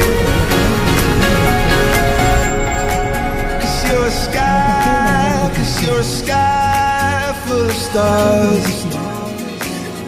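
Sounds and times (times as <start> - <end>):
steady beat: 0.0 - 9.4
person singing: 0.1 - 10.0.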